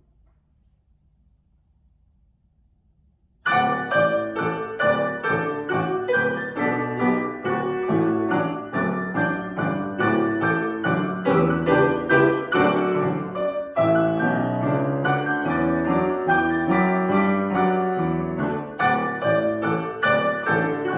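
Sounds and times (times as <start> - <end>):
classical piano piece: 3.4 - 20.9.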